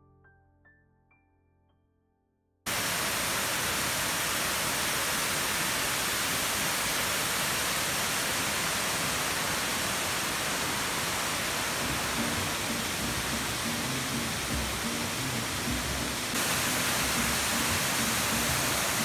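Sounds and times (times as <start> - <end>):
water pouring over weir: 2.7 - 19.0.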